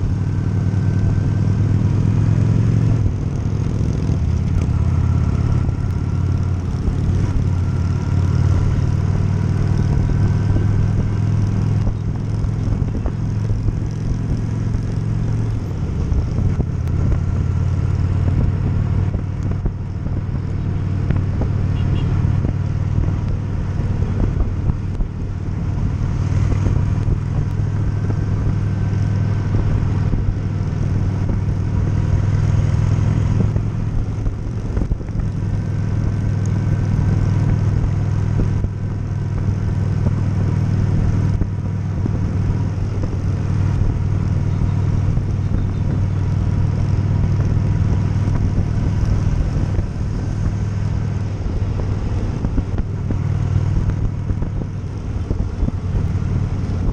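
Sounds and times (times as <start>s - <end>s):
motorcycle engines running: 0.0s - 56.9s.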